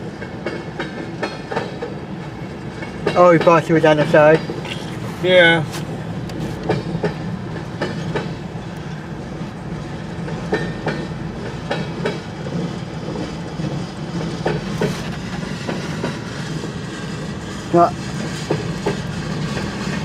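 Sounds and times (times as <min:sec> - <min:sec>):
freight train cars rumbling past: 0:00.0 - 0:20.0
wheels clacking over rail joints: 0:00.0 - 0:20.0.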